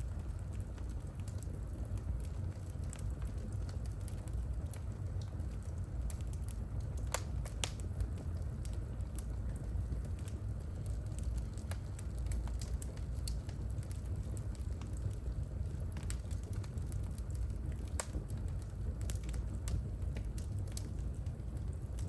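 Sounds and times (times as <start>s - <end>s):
fireplace flames rumbling: 0.0s - 22.0s
logs crackling and popping: 0.0s - 22.0s.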